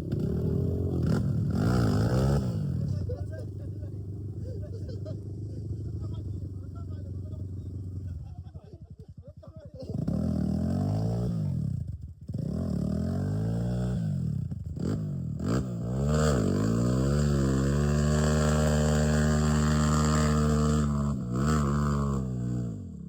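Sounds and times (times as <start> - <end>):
dirt bike engine revving: 0.0 - 8.3, 9.8 - 23.0.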